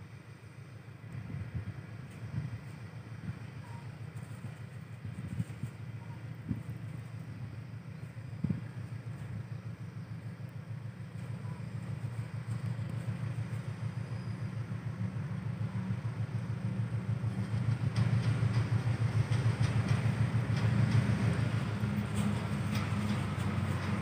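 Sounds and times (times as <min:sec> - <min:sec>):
diesel locomotive engine drone: 0:00.0 - 0:24.0
wheel and rail clatter: 0:01.1 - 0:24.0.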